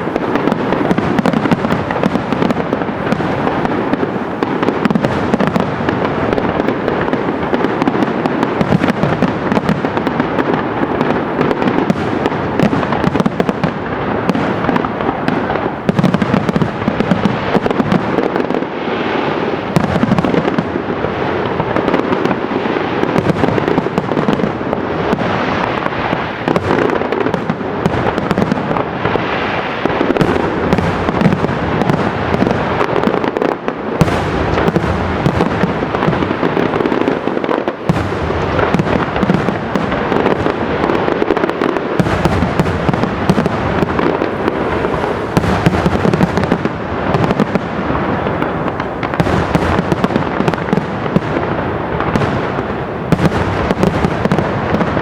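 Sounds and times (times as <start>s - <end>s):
fireworks bangs and crackle: 0.0s - 55.0s.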